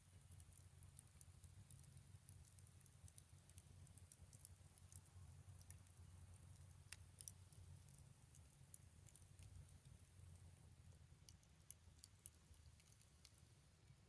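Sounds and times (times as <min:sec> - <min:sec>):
bonfire crackling: 0:00.1 - 0:14.0.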